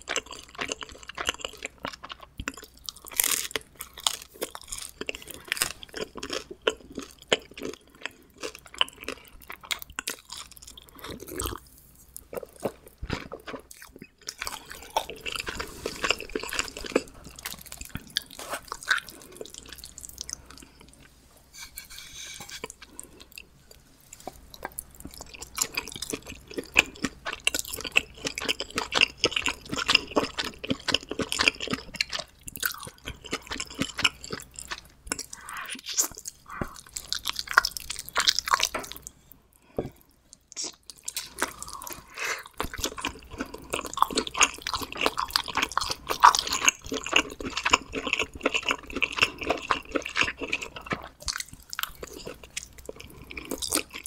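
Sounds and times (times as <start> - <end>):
person chewing pizza: 0.0 - 54.0.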